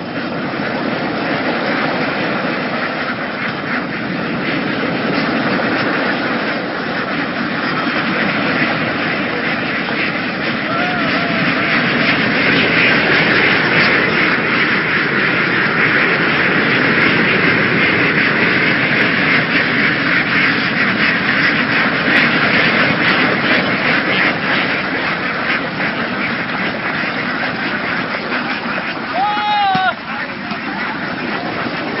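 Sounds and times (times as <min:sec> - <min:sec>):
ducks quacking: 0:00.0 - 0:32.0.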